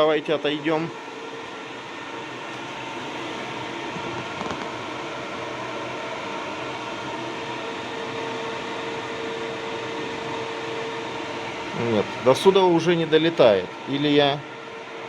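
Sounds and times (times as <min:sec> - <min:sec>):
extraction fan running: 0:00.0 - 0:15.0.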